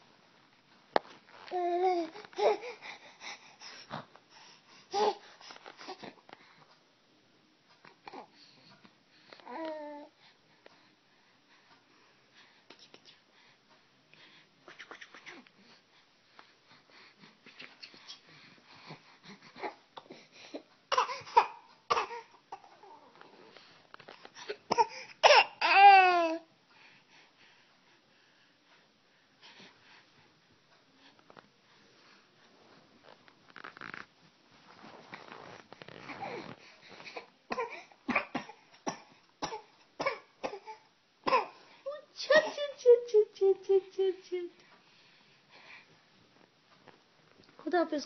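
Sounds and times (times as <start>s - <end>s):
soft breathy sound: 0.9s - 7.0s, 7.7s - 25.2s, 26.4s - 33.1s, 34.5s - 39.9s, 40.6s - 46.4s.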